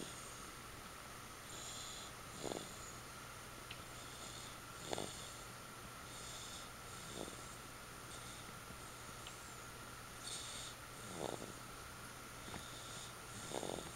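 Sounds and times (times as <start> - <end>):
soft snoring: 0.0 - 0.5, 1.5 - 3.0, 3.8 - 11.7, 12.4 - 13.9
faint steady hum: 0.0 - 13.9.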